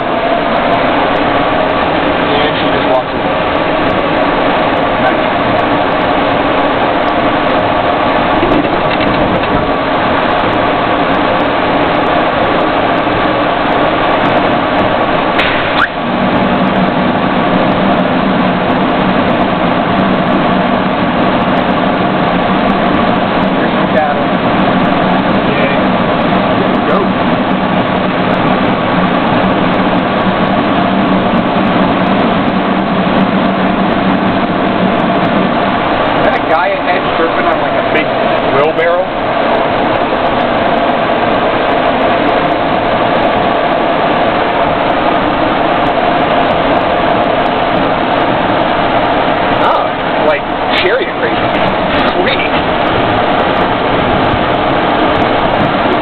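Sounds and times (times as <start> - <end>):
vehicle engine and road drone: 0.0 - 56.0.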